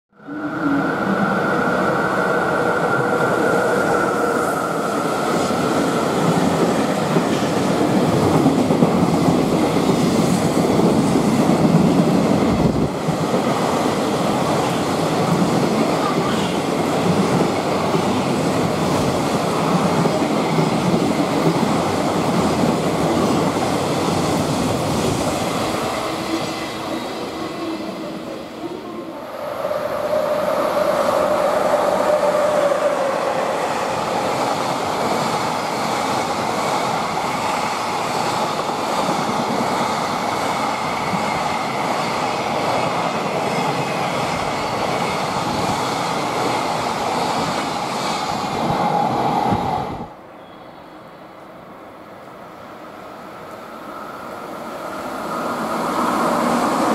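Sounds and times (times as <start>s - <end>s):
freight train wheels on rail: 0.2s - 56.9s.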